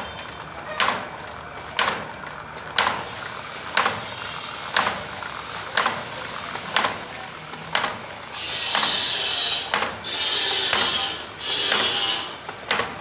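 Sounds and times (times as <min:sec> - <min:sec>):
machine clacking: 0:00.0 - 0:13.0
mechanical hum: 0:00.0 - 0:13.0.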